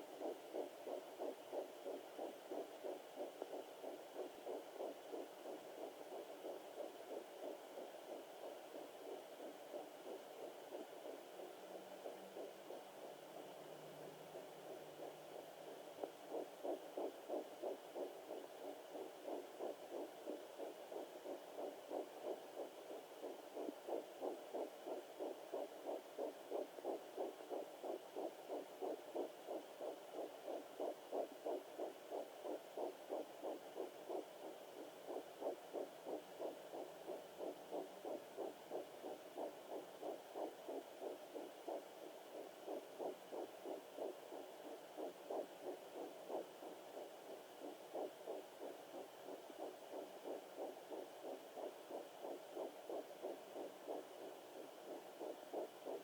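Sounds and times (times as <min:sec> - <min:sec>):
fetal heartbeat on doppler: 0:00.0 - 0:56.0.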